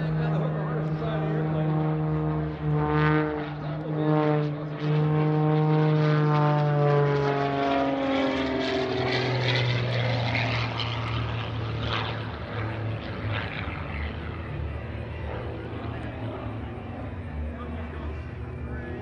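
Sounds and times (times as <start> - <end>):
propeller plane engine in flight: 0.0 - 19.0.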